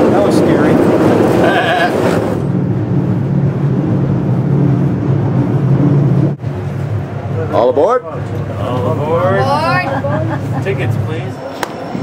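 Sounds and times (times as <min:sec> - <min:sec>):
low hum inside rail coach: 0:00.0 - 0:12.0
train rumbling on rails: 0:00.0 - 0:12.0.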